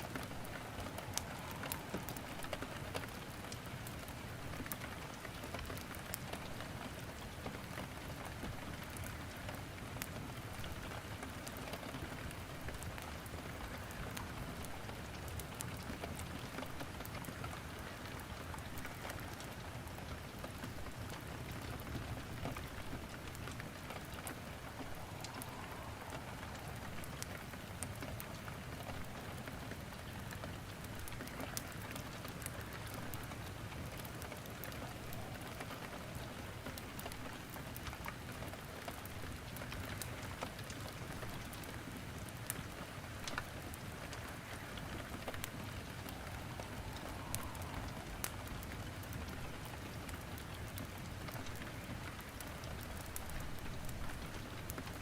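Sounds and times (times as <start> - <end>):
firewood crackling: 0.0 - 55.0
rain falling: 0.0 - 55.0.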